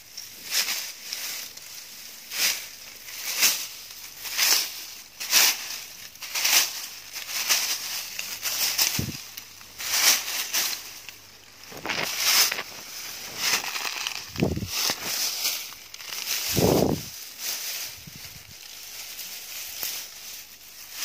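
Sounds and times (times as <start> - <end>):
footsteps through dry leaves: 0.0 - 21.0.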